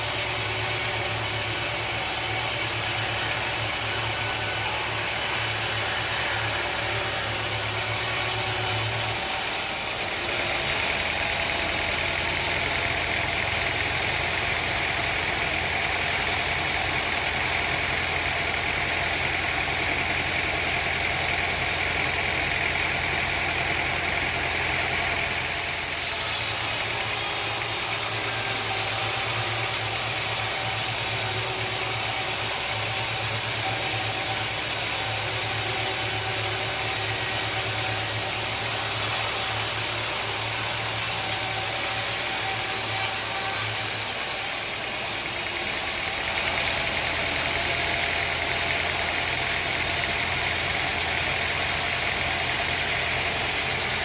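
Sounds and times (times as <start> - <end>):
saw whine cutting log: 0.0 - 54.0
sawmill saw running: 0.0 - 54.0.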